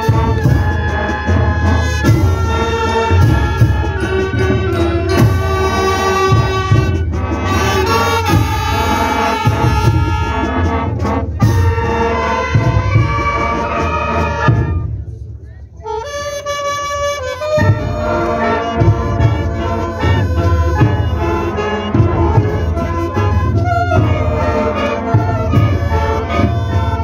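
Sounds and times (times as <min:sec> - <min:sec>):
brass band playing a march: 0:00.0 - 0:27.0.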